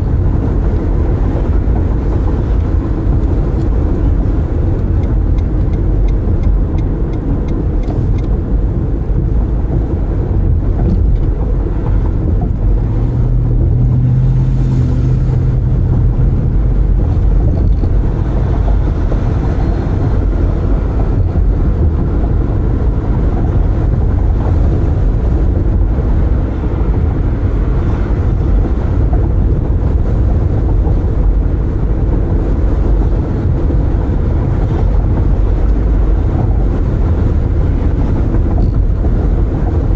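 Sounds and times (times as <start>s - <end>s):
tyre and wind rumble: 0.0s - 39.9s.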